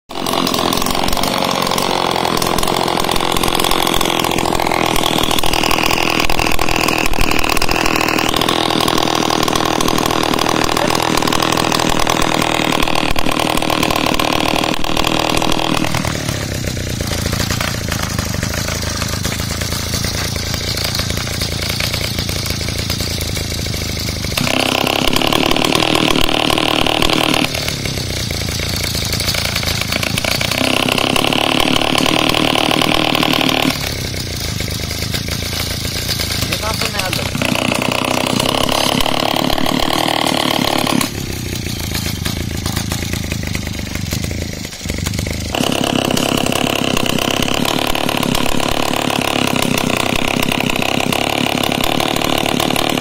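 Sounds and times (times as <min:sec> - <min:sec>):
small engine open-exhaust buzz: 0:00.1 - 0:53.0.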